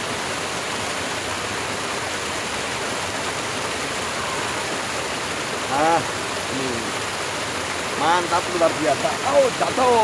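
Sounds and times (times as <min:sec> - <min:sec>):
water rushing in a channel: 0:00.0 - 0:10.0.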